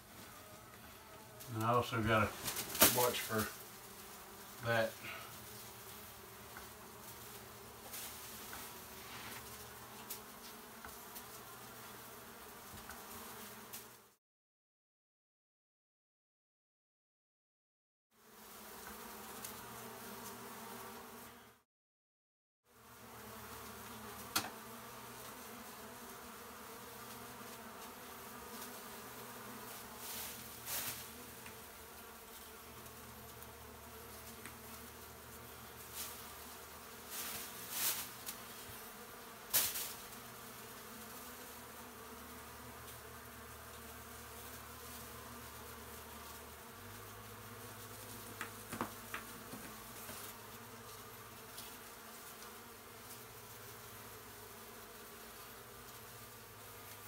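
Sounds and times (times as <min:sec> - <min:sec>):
bees buzzing: 0:00.0 - 0:14.1, 0:18.2 - 0:21.6, 0:22.7 - 0:57.0.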